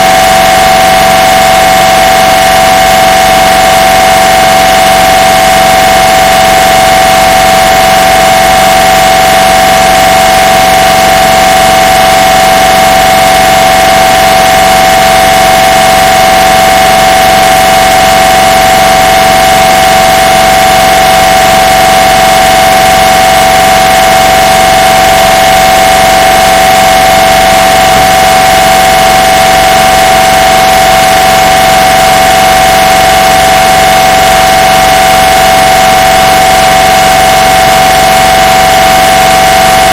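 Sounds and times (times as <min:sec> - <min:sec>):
mri scanner steady tone: 0:00.0 - 0:39.9.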